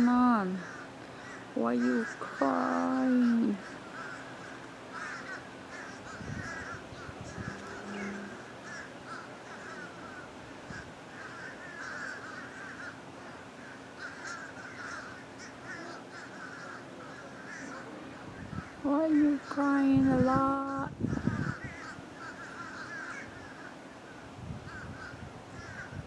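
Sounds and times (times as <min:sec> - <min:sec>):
bird calling: 0:00.0 - 0:26.0.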